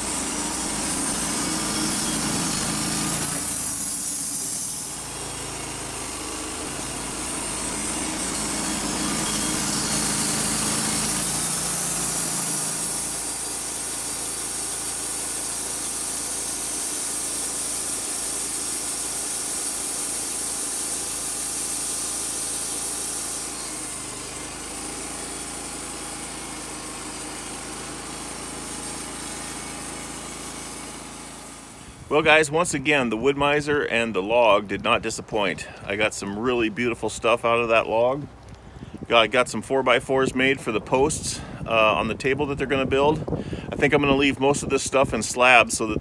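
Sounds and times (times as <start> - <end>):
band saw cutting log: 0.0 - 39.1.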